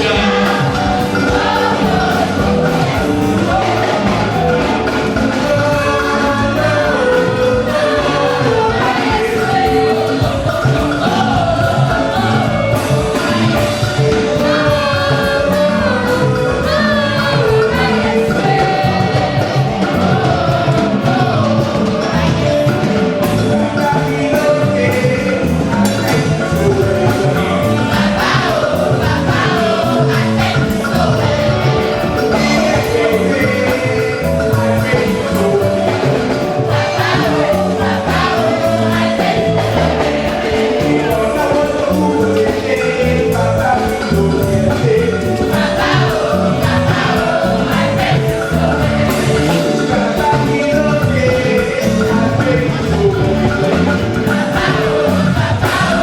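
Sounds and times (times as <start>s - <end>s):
gospel singing voices: 0.0s - 56.0s
instrumental accompaniment with beat: 0.0s - 56.0s.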